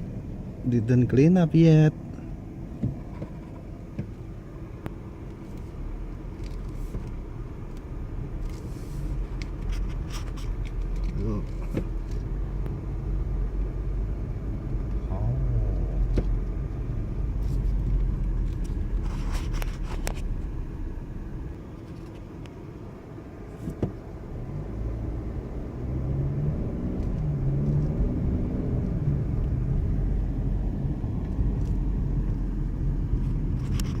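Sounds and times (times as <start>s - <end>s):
car traffic rumble: 0.0s - 34.0s.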